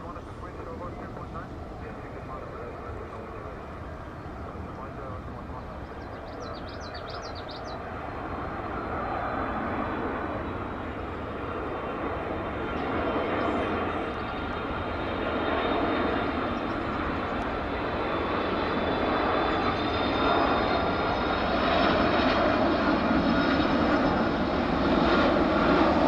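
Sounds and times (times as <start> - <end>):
jet engines running with whine: 0.0 - 26.0.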